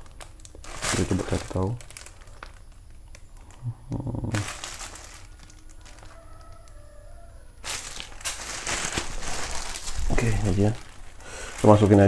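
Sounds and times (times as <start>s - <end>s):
plastic bags crinkling: 0.0s - 7.0s, 7.6s - 12.0s.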